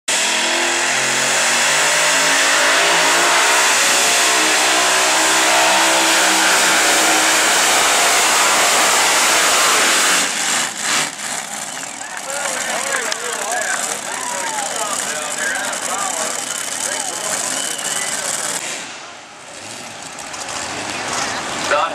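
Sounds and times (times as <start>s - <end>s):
tractor engine roaring: 0.1s - 21.9s.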